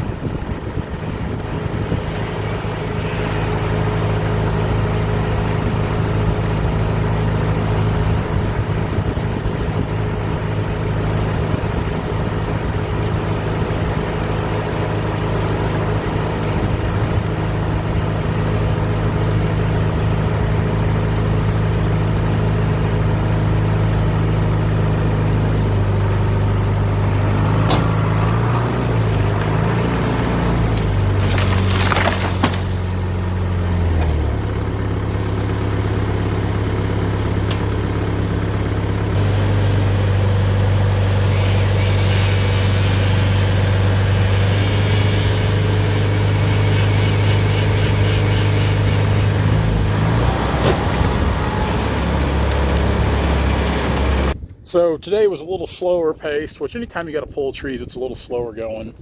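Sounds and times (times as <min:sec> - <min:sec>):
engine running: 0:00.0 - 0:55.6.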